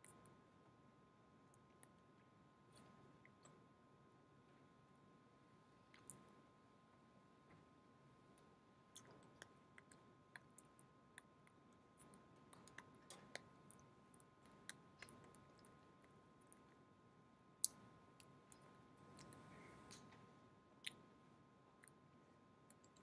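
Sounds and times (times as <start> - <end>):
steady thin hum: 0.0 - 23.0
faint irregular clicks: 1.4 - 3.7, 5.8 - 16.9, 17.6 - 23.0.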